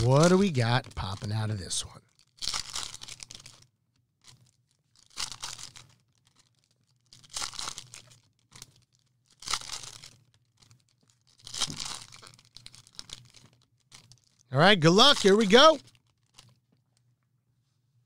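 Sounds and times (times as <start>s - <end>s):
foil wrappers tearing and crinkling: 0.0s - 3.6s, 4.2s - 16.5s.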